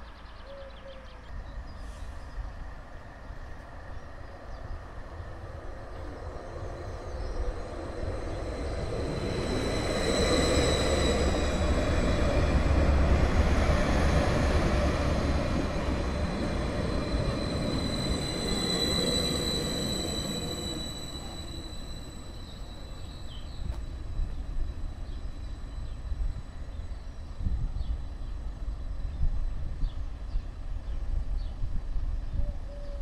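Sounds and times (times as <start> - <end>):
train wheels rumbling on rails: 1.4 - 32.9
high steady whistling tones: 1.6 - 33.0.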